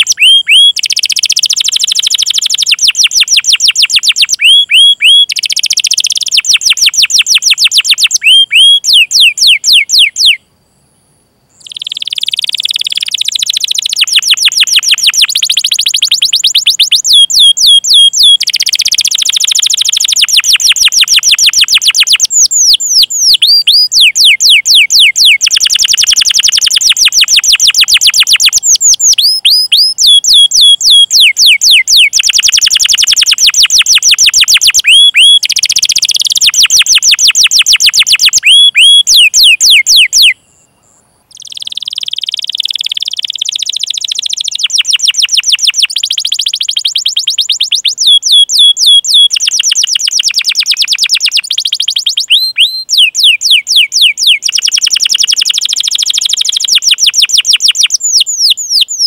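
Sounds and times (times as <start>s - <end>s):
canary singing trills: 0.0s - 10.5s, 11.5s - 59.0s.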